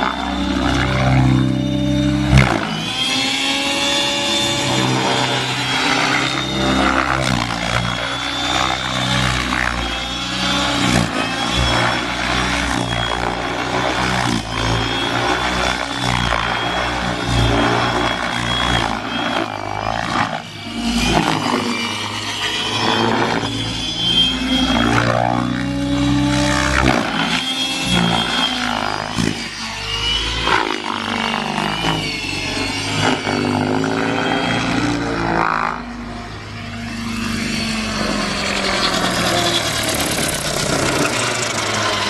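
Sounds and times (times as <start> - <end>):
model helicopter rotor whine: 0.0 - 42.0.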